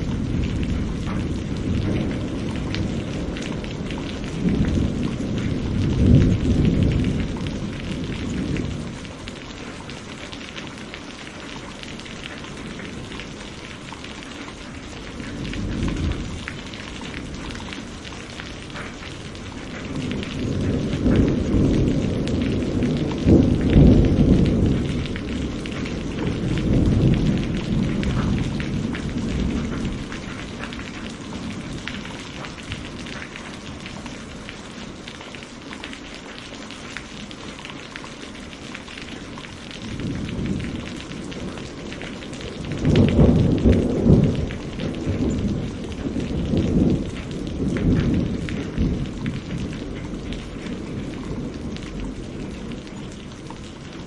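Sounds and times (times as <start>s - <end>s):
rolling thunder: 0.0s - 10.2s, 14.8s - 35.1s, 39.7s - 54.0s
rain on a window: 0.0s - 54.0s.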